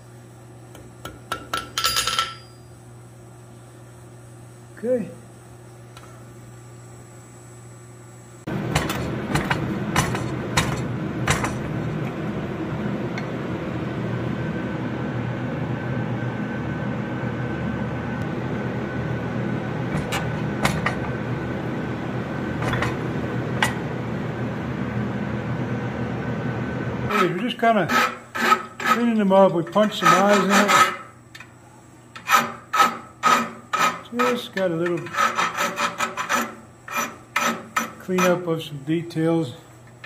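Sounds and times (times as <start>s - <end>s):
workshop machinery running: 0.0s - 40.0s.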